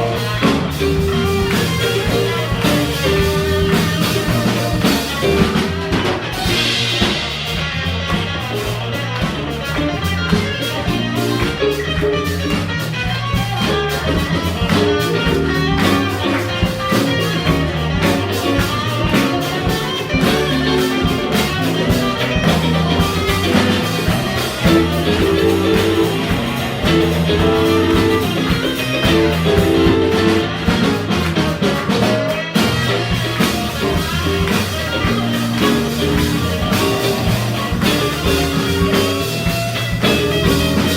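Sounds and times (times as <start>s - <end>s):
funk band playing: 0.0s - 40.9s.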